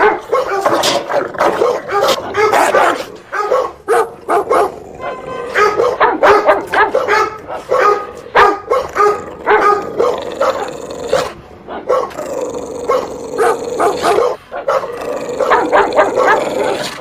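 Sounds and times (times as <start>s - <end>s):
dog barking: 0.0s - 12.2s, 12.9s - 17.0s.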